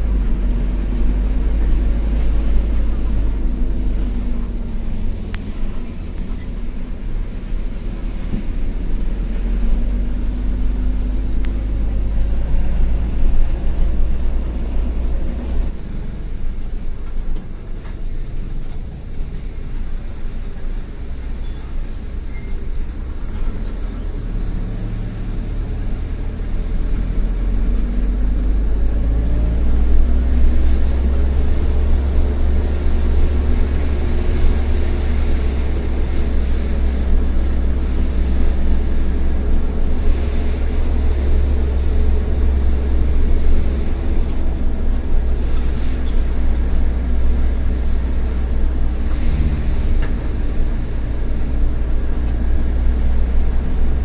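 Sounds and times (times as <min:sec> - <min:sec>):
bus diesel engine droning: 0:00.0 - 0:54.0.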